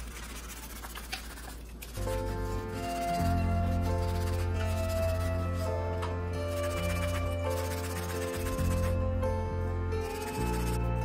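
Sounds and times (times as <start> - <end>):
soft instrumental music: 2.0 - 11.0.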